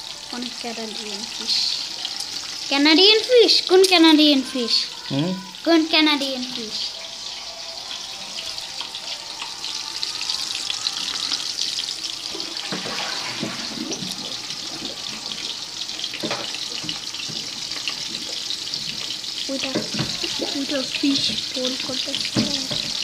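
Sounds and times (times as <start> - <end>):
fish frying in oil: 0.0 - 23.0.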